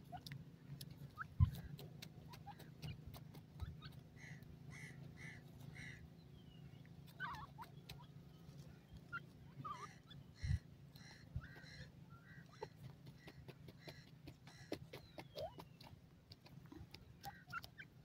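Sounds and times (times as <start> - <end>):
soft bird calls: 0.0 - 18.0
steady low hum: 0.0 - 18.0.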